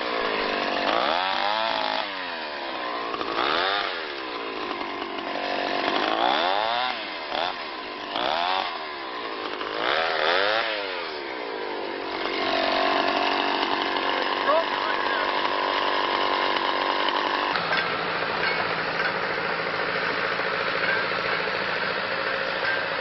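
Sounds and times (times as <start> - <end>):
chainsaw revving: 0.0 - 23.0.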